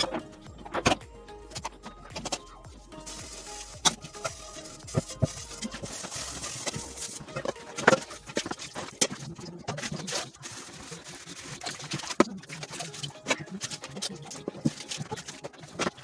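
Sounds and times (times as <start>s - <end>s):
pots and basins clattering in sink: 3.0s - 16.0s.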